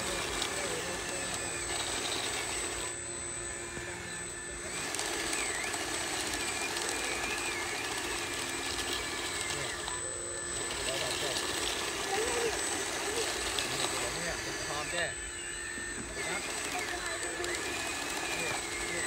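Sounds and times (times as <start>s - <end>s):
model bulldozer mechanical drone: 0.0s - 19.0s.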